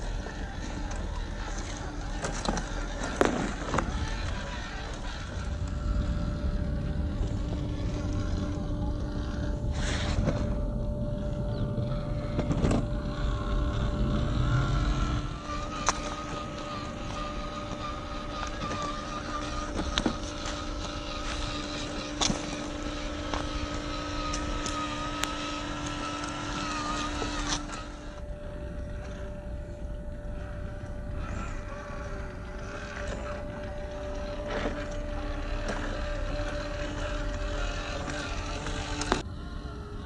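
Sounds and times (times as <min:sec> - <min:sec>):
electric motor whining: 0:00.0 - 0:40.0.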